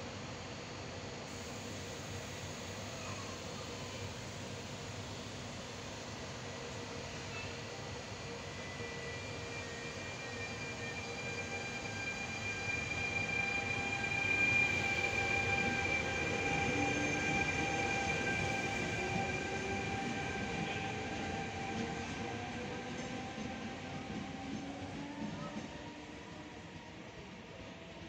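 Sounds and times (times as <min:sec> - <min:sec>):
electric locomotive whine: 0:00.0 - 0:28.0.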